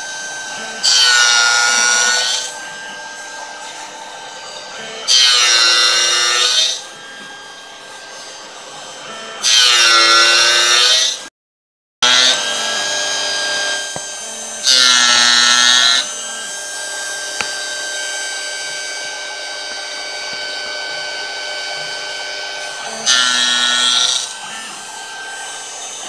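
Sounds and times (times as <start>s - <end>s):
gear cutter cutting metal: 0.0s - 11.3s, 12.0s - 26.0s.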